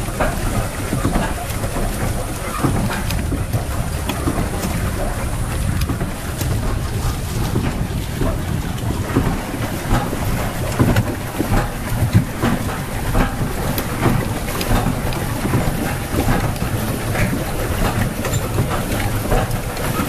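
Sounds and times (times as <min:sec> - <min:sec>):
small water splashes: 0:00.0 - 0:20.0
water sloshing against boat: 0:00.0 - 0:20.0
wind buffeting microphone: 0:00.0 - 0:20.0.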